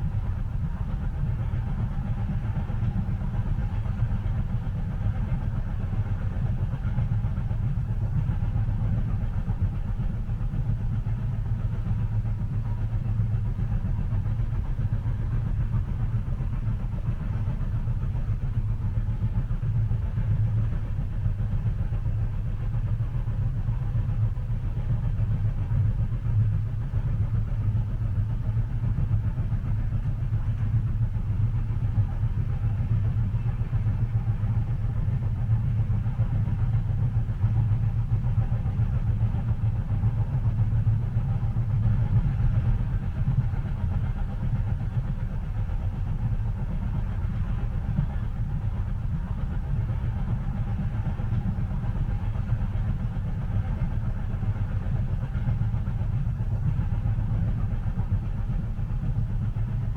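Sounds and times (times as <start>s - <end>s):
train rumble inside cabin: 0.0s - 59.9s.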